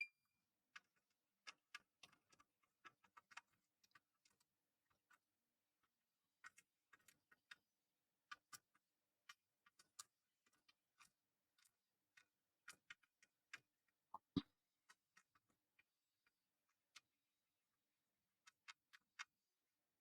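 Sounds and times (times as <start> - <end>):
small clicks and taps: 0.7 - 19.5.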